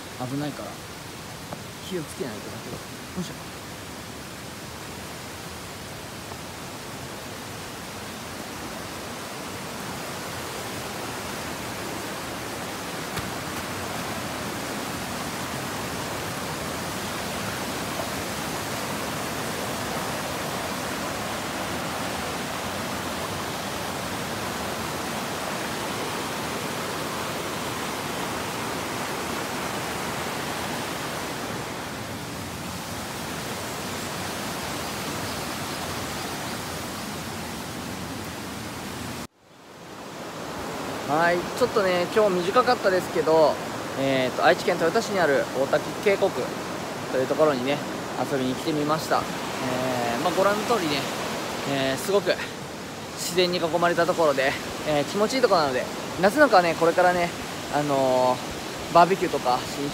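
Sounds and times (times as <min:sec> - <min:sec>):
water rushing in rocky stream: 0:00.0 - 0:39.3, 0:39.9 - 0:59.9.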